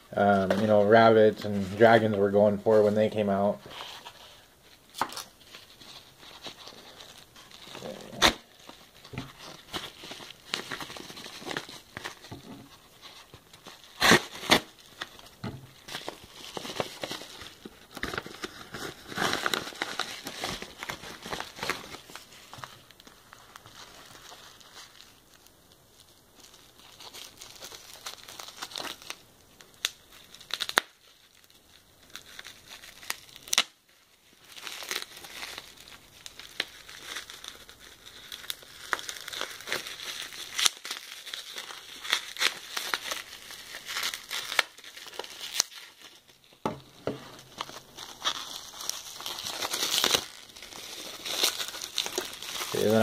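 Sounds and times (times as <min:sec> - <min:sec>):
bubble wrap crinkling and snapping: 0:00.0 - 0:53.0.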